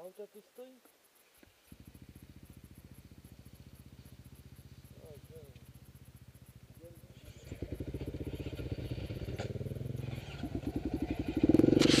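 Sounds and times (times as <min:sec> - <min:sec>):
dirt bike engine revving: 0:01.7 - 0:12.0.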